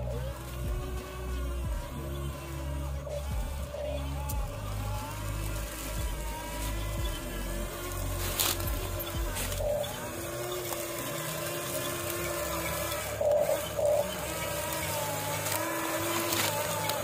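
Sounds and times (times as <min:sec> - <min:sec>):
small electric motors whining: 0:00.0 - 0:17.0.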